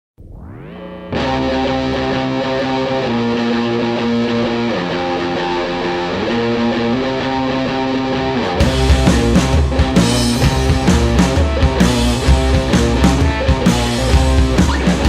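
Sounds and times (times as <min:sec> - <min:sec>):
slow held guitar chords: 0:00.2 - 0:15.0.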